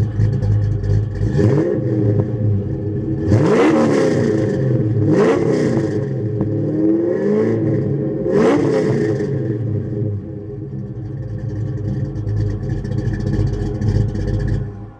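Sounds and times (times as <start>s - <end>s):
car engine rumbling idle: 0.0s - 7.0s, 8.9s - 14.9s
car engine revving: 0.0s - 14.9s.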